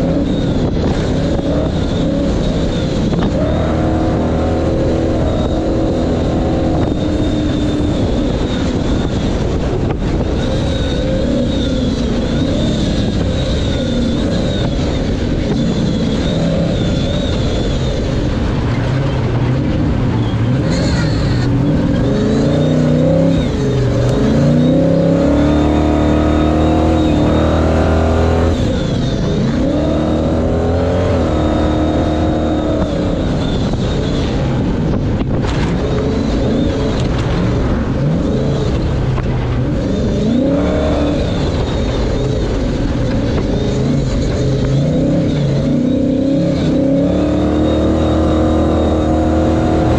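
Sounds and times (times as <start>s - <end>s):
truck engine revving under load: 0.0s - 49.9s.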